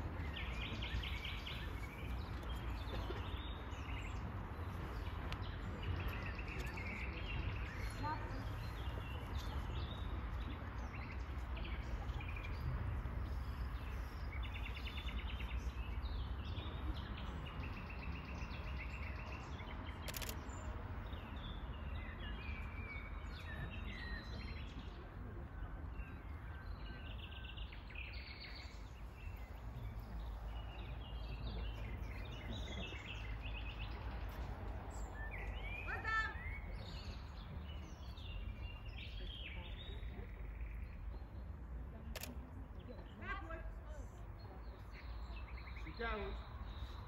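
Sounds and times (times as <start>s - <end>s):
small birds singing and chirping: 0.0s - 47.0s.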